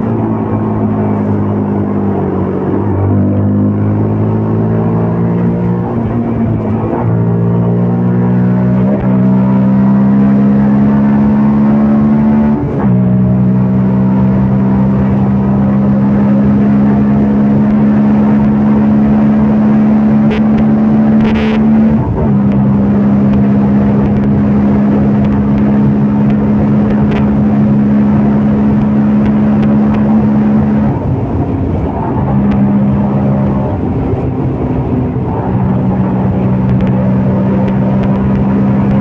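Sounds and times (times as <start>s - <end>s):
motorcycle engine cruising: 0.0s - 39.0s.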